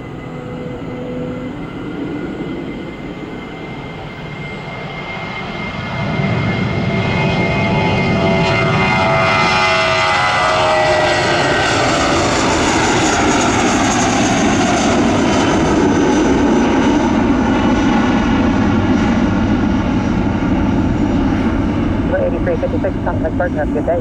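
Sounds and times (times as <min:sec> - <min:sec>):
jet airliner passing: 0:00.0 - 0:24.0.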